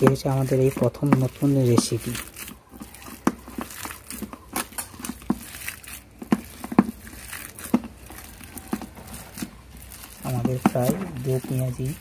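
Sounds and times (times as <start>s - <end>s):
batter squelching by hand: 0.0s - 12.0s.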